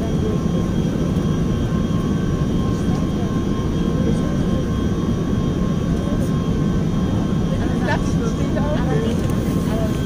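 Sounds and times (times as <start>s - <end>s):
jet engine cabin rumble: 0.0s - 10.0s.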